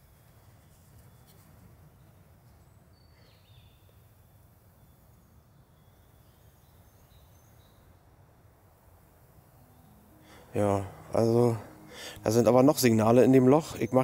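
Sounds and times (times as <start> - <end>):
distant bird chirps: 0.3 - 14.0.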